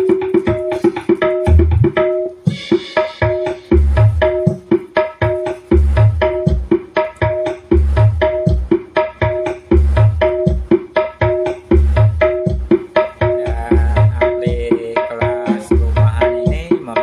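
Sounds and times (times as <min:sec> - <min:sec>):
music with hand-drum beat: 0:00.0 - 0:17.0
deep bass thumps: 0:01.5 - 0:14.8, 0:15.7 - 0:16.8.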